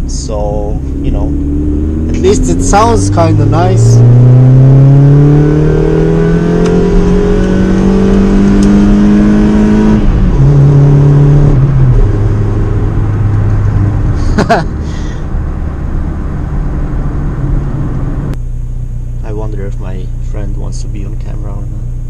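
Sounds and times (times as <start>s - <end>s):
car engine with broken exhaust: 0.0s - 22.0s.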